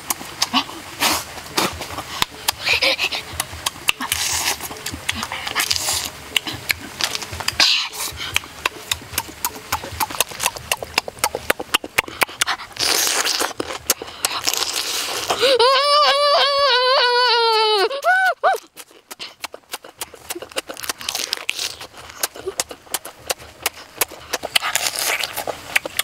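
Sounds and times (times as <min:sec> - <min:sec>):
lip-smacking and chewing: 0:00.0 - 0:15.6, 0:17.5 - 0:26.0
sucking and slurping: 0:00.0 - 0:26.0.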